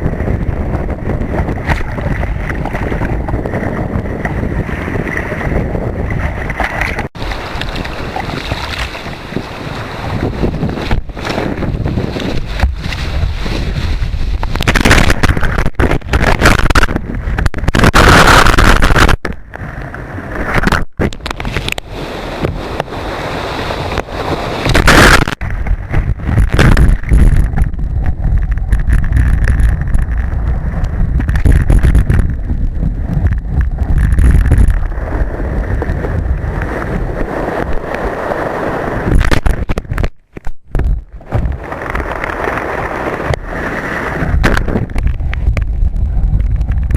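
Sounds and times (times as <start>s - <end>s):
surf rushing and splashing: 0.0s - 46.9s
wind buffeting microphone: 0.0s - 46.9s.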